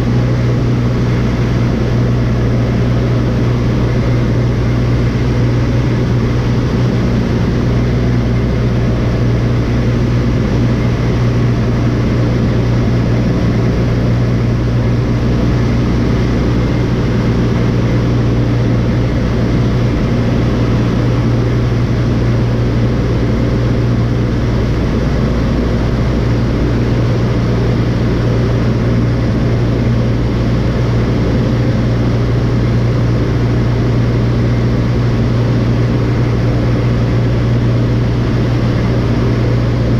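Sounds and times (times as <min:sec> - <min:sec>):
airplane piston engine droning: 0:00.0 - 0:39.9.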